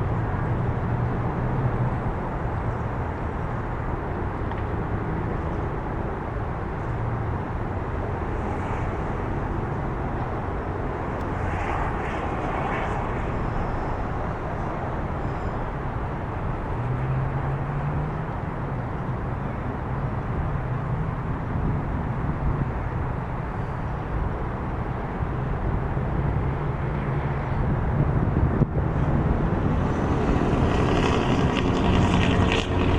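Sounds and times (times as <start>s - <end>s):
engine drone: 0.0s - 32.9s
wind noise on microphone: 0.0s - 32.9s.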